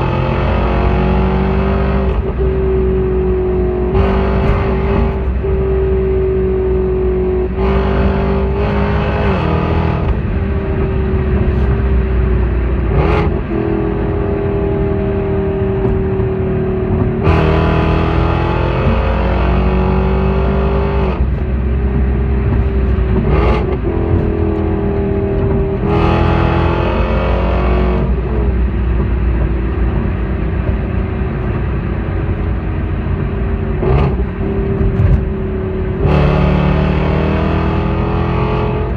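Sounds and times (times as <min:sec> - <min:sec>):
car engine exhaust drone: 0:00.0 - 0:38.9
exhaust pops: 0:01.5 - 0:06.4, 0:07.4 - 0:38.9.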